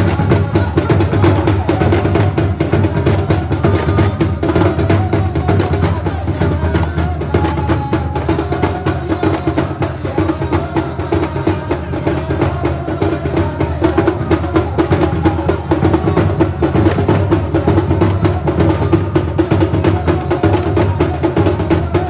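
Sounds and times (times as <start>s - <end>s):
hand drums fast rhythm: 0.0s - 22.0s.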